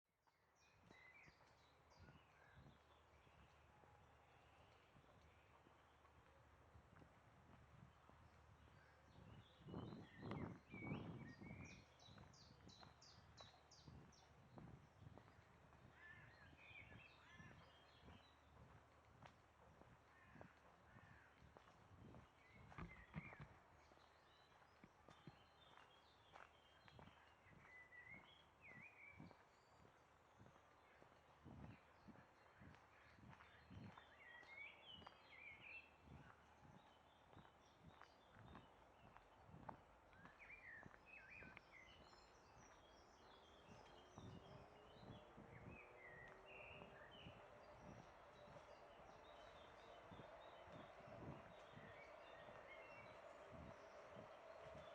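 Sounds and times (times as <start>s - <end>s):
soft footsteps on a path: 0.1s - 54.9s
small birds chirping: 0.4s - 54.9s.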